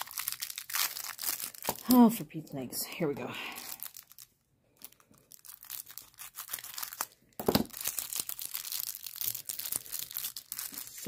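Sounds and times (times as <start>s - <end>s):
plastic packaging crinkling: 0.0s - 2.1s, 3.5s - 11.0s.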